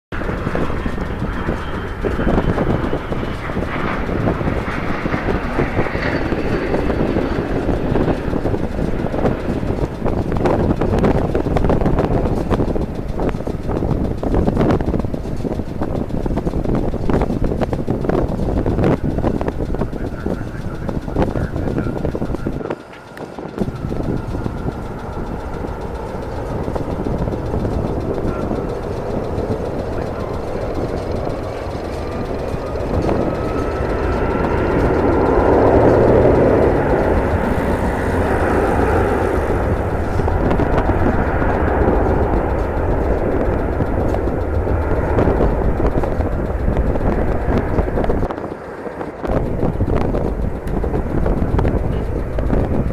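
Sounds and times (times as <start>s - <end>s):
faint high whine: 0.1s - 48.6s
wind buffeting microphone: 0.1s - 52.9s.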